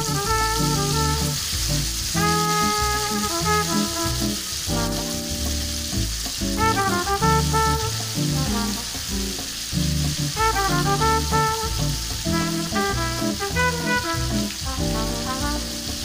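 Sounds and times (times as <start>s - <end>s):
background music with bass line: 0.0s - 16.0s
spice paste sizzling in hot oil: 0.0s - 16.0s.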